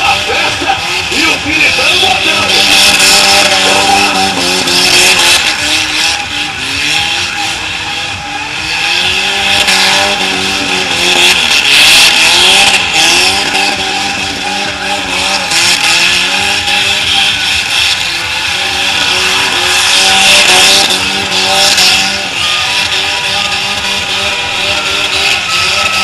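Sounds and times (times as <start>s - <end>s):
car engine revving: 0.0s - 26.0s
tyres squealing: 0.0s - 26.0s.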